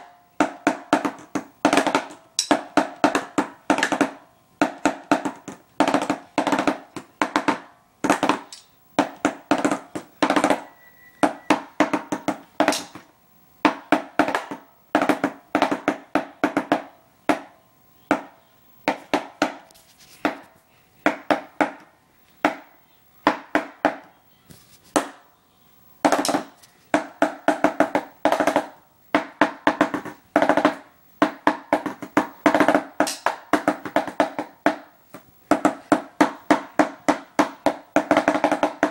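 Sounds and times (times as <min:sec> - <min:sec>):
drumsticks beating a drum pad: 0:00.0 - 0:24.1, 0:24.9 - 0:25.3, 0:26.0 - 0:38.9.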